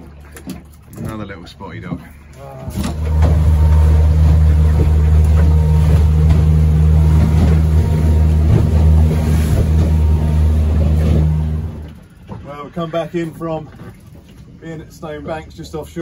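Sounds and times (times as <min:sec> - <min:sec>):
outboard motor droning: 0:00.0 - 0:16.0
water rushing past hull: 0:00.0 - 0:16.0.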